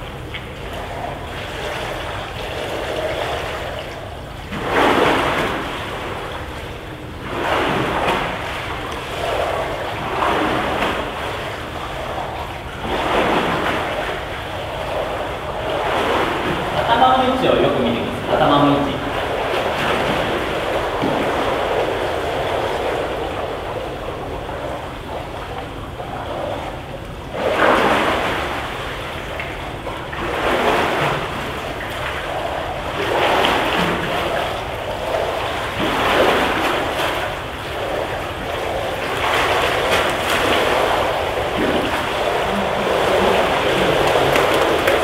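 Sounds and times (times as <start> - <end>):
water splashing in swimming pool: 0.0 - 45.0.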